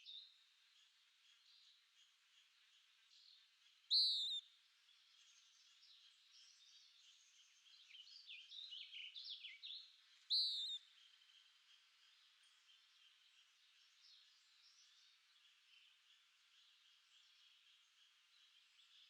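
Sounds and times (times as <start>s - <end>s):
faint chorus of birds: 0.0s - 19.0s.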